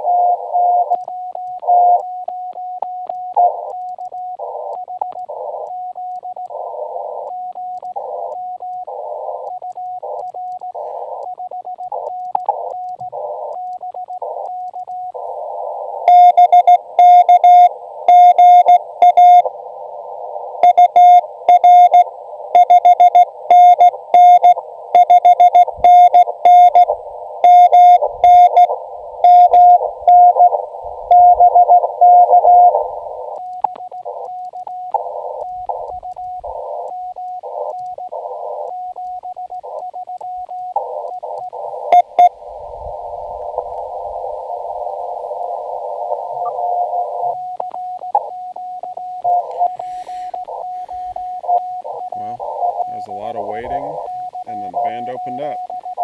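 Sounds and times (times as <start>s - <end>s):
harsh morse sidetone: 0.0s - 19.5s, 20.6s - 56.0s
morse code tones: 0.0s - 19.5s, 20.6s - 56.0s
radio receiver hiss: 0.0s - 56.0s.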